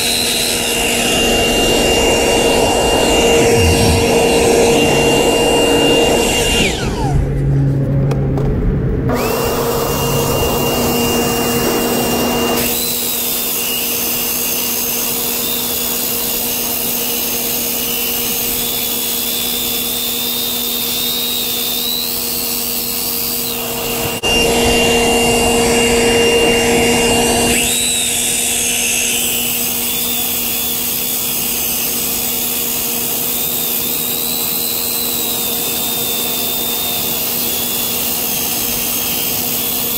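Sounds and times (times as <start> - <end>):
saw blade grinding asphalt: 0.0 - 7.2, 9.1 - 39.9
circular saw motor whine: 0.0 - 7.6, 9.1 - 39.9.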